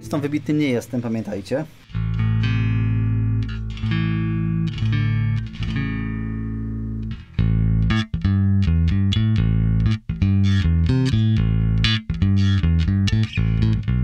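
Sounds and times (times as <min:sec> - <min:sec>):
electric bass notes: 0:01.8 - 0:14.0.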